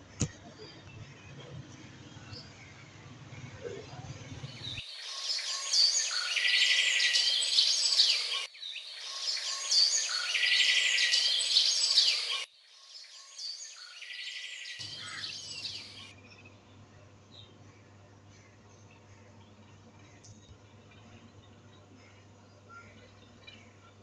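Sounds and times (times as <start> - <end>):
recorded birdsong: 0.0 - 24.0.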